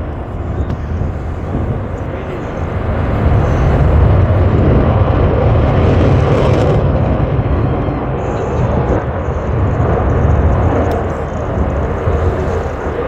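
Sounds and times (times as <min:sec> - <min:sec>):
airplane engine rumble: 0:00.0 - 0:13.0.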